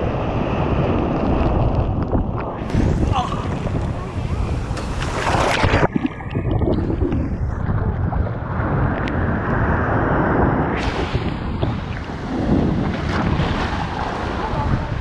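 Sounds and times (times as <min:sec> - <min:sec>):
ocean surf splashing: 0:02.6 - 0:15.0.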